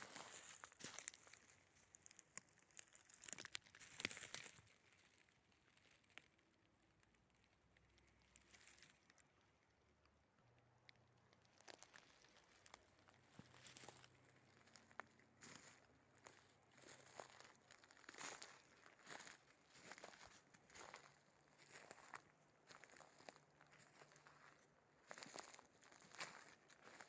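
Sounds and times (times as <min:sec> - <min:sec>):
footsteps on dry forest litter: 0:00.0 - 0:06.4, 0:08.0 - 0:09.5, 0:11.4 - 0:27.0.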